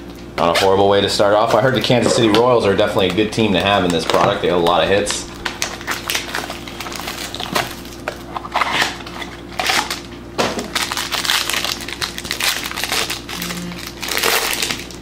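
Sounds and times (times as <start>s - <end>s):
foil wrapper tearing and crinkling: 2.9s - 15.0s.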